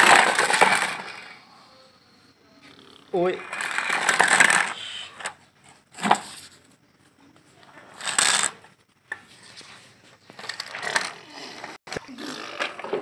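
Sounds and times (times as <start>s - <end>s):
toy wheels rolling on concrete: 0.0s - 1.9s, 2.6s - 13.0s.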